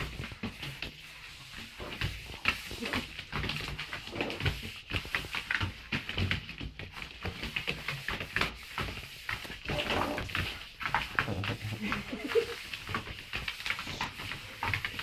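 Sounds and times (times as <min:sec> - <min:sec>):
paws scrabbling on wooden floor: 0:00.0 - 0:15.0.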